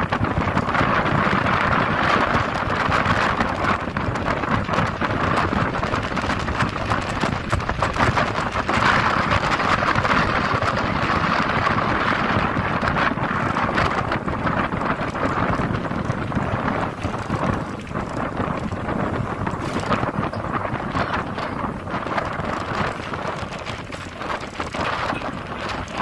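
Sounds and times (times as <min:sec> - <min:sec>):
road and engine noise: 0:00.0 - 0:26.0
wind buffeting at open window: 0:00.0 - 0:26.0.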